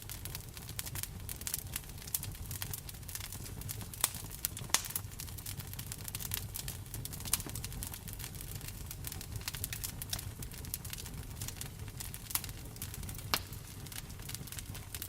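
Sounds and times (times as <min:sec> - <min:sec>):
wood fire crackling: 0:00.0 - 0:15.0
sharp fire pops: 0:00.1 - 0:15.0.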